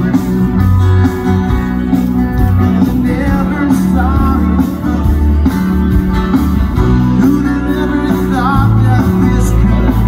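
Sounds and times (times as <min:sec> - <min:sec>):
live rock band through pa: 0:00.0 - 0:10.0.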